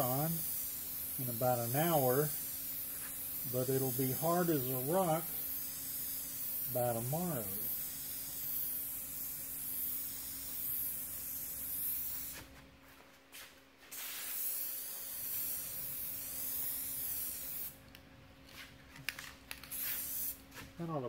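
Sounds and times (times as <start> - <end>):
spray-paint can hissing: 0.0 - 12.5, 13.9 - 17.8, 19.6 - 20.4.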